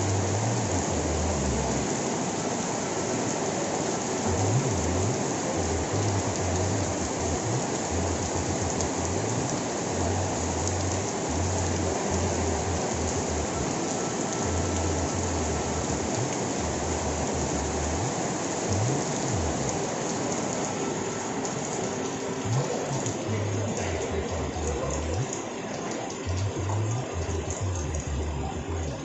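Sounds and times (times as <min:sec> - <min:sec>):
steady rain pattering: 0:00.0 - 0:29.0.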